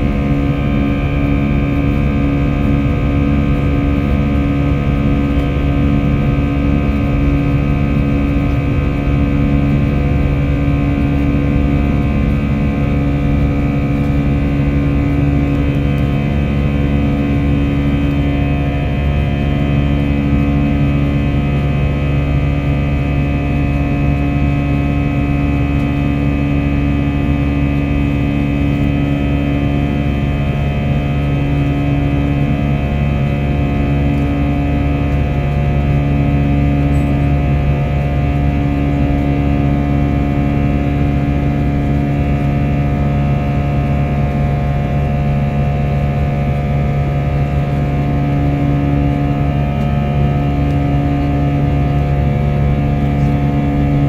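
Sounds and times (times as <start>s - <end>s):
airliner engines droning in cabin: 0.0s - 54.0s
higher hum: 0.0s - 54.0s.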